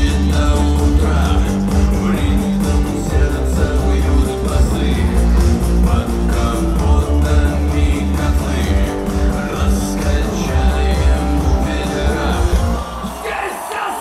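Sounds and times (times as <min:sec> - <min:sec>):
heavy pulsing bass: 0:00.0 - 0:13.0
rock music with electric guitar: 0:00.0 - 0:13.2
person singing: 0:00.0 - 0:14.0.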